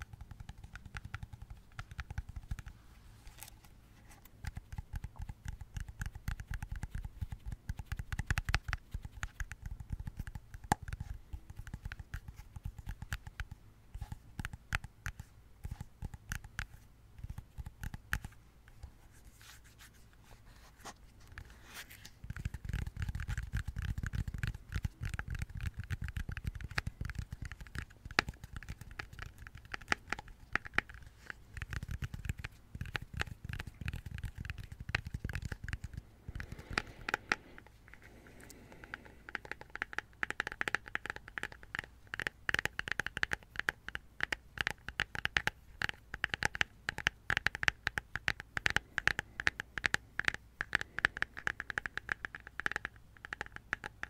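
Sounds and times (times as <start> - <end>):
rapid tapping on plastic: 0.0 - 2.6, 4.4 - 18.3, 22.2 - 37.6, 38.7 - 54.0.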